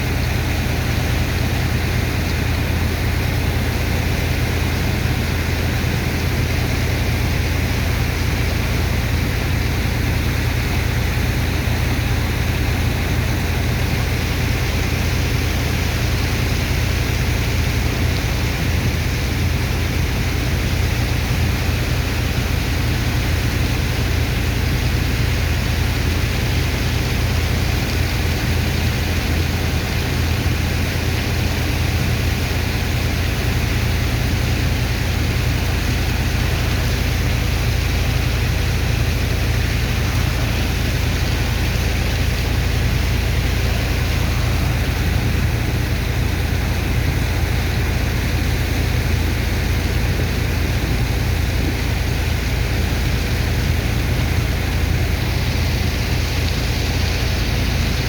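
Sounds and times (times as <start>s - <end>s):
pump engine running: 0.0s - 58.0s.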